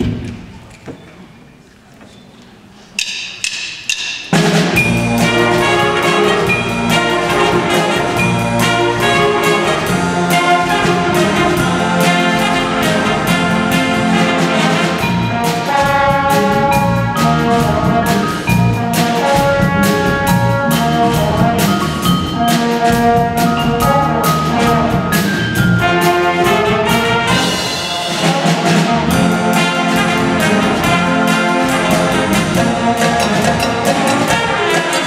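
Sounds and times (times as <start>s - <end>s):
jazz big band playing: 4.2s - 35.0s.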